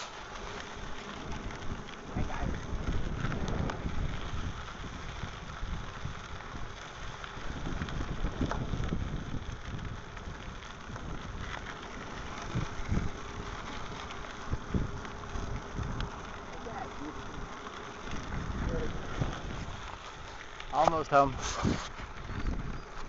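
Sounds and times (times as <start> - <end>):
tyres rolling over gravel: 0.0 - 23.0
wind rumble on microphone: 0.0 - 23.0.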